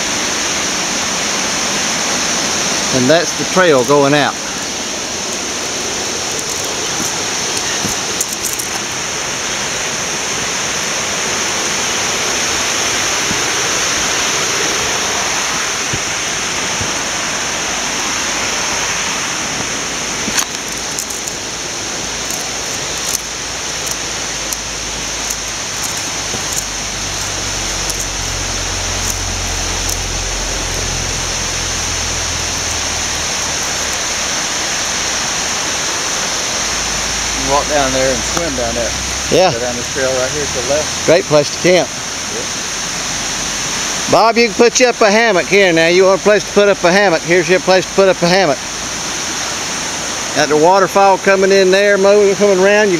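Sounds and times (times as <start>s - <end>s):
waterfall rushing water: 0.0s - 52.9s.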